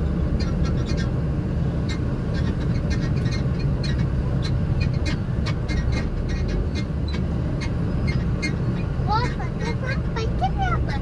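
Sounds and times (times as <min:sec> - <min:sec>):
low engine and road rumble: 0:00.0 - 0:11.0.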